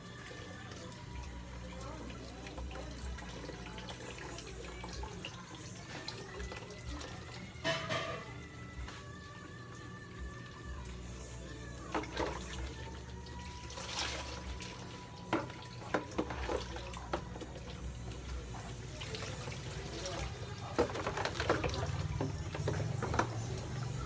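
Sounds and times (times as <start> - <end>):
water sloshing in plastic tubs: 0.0 - 24.0.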